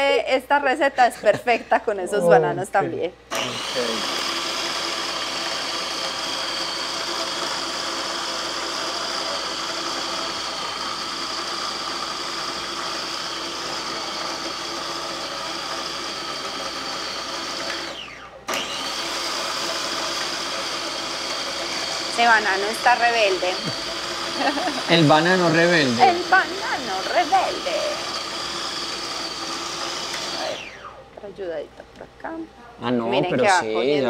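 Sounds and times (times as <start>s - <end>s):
food processor motor running: 3.3s - 31.0s.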